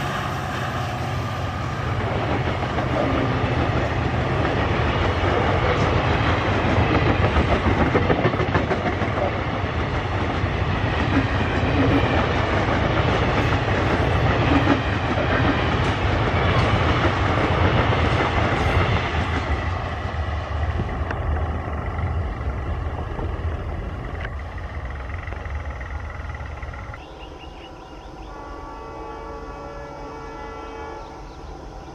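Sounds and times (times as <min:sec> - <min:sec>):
train wheels rumbling on track: 0:00.0 - 0:31.9.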